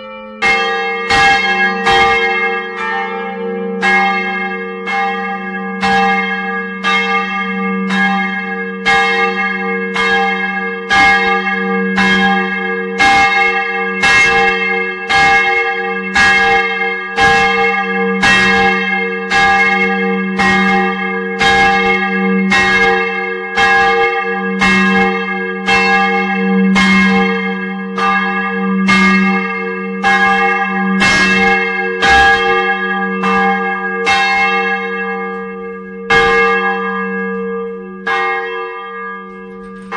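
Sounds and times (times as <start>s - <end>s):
church bells ringing: 0.0s - 39.9s
deep bell hum: 0.0s - 39.9s.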